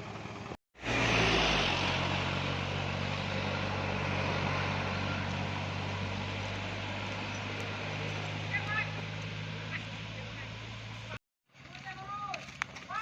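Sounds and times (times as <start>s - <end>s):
diesel truck engine running: 0.0s - 11.2s.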